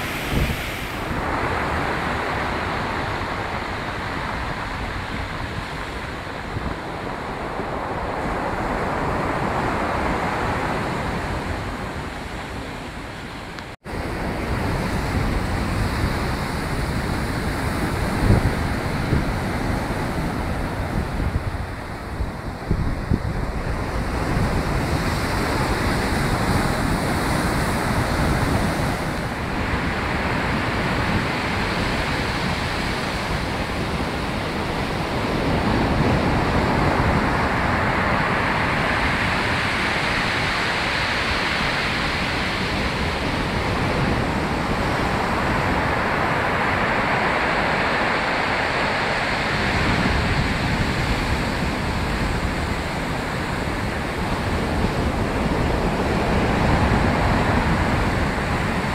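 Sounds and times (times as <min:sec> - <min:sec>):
surf breaking on beach: 0:00.0 - 0:58.9
wind buffeting microphone: 0:00.0 - 0:58.9.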